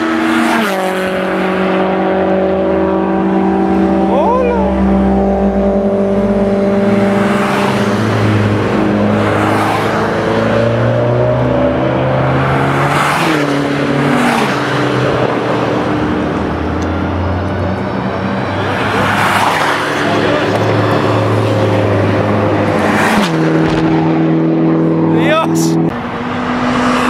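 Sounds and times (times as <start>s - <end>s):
race cars passing at high revs: 0.0s - 27.0s.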